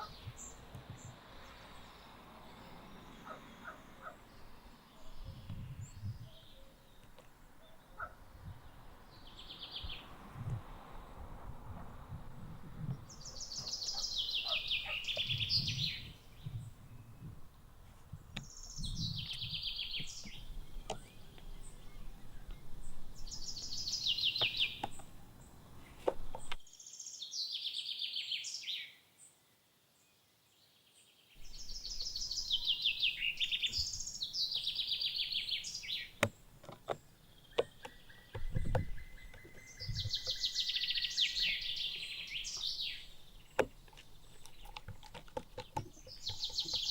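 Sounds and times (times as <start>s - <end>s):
songbird singing falling phrases: 0.0s - 29.3s, 30.0s - 46.9s.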